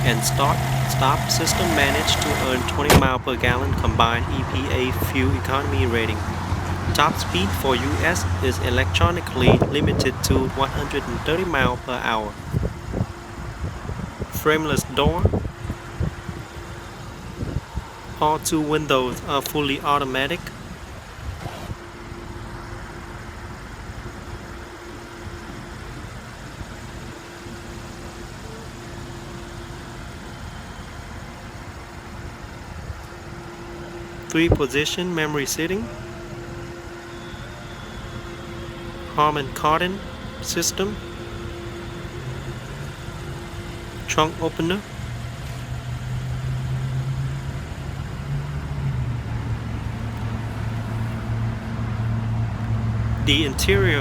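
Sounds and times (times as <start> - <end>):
car engine idling: 0.0 - 54.0
constant hum: 0.0 - 54.0.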